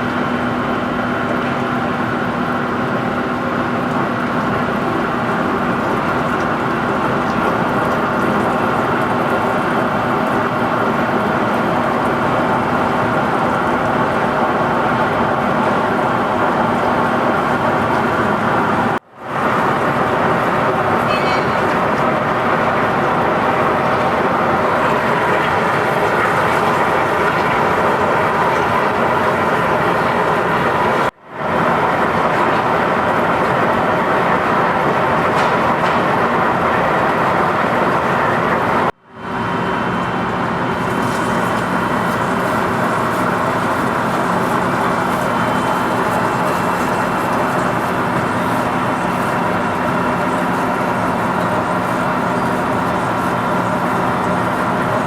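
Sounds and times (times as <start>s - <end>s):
lathe machining: 0.2s - 55.0s.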